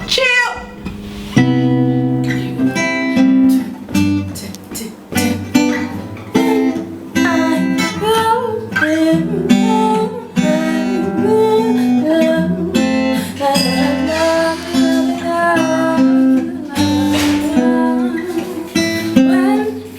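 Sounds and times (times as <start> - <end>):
acoustic guitar plucked notes: 0.0 - 19.9.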